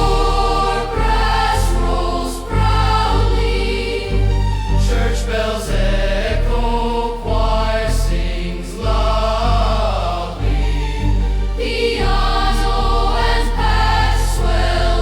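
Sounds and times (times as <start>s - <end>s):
choir singing held chords: 0.0s - 15.0s
deep bass notes: 0.0s - 15.0s
orchestral christmas music: 0.0s - 15.0s.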